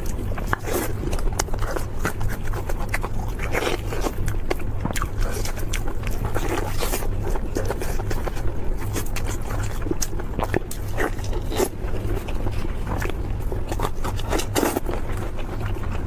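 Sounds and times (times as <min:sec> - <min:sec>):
crisp crackling bites and chewing: 0:00.0 - 0:16.0
steady low hum: 0:00.0 - 0:16.0.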